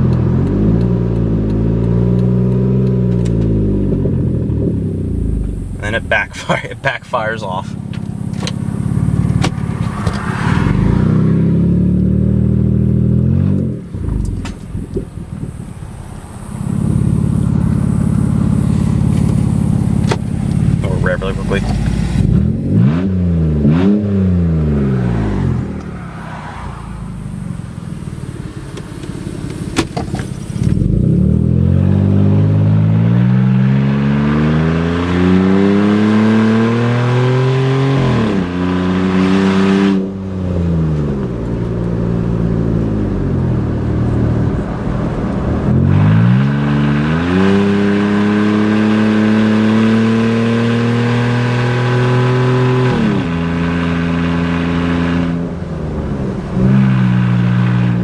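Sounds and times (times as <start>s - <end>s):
loud car engine revving: 0.0s - 58.0s.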